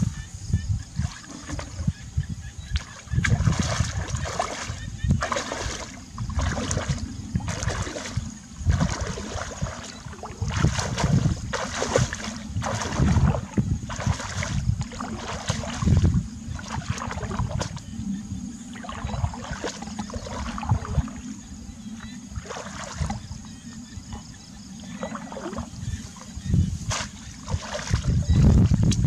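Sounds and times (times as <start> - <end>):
wading through muddy water: 0.0 - 29.0.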